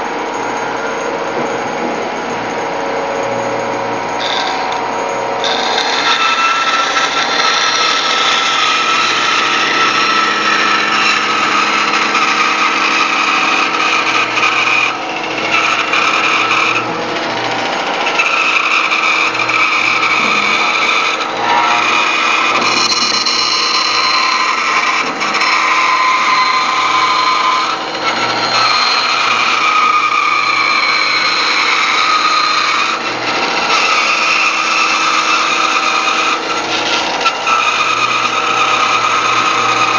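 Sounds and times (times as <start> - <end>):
band saw cutting wood: 3.2 - 39.9.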